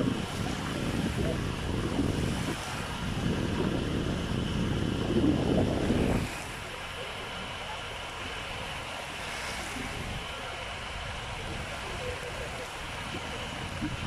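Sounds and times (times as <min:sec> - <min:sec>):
calm sea wash: 0:00.0 - 0:14.0
wind buffeting microphone: 0:00.0 - 0:14.0.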